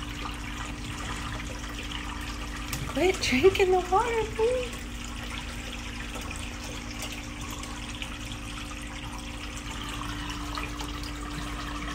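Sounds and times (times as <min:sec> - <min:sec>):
pump hum: 0:00.0 - 0:11.9
water running and trickling: 0:00.0 - 0:11.9.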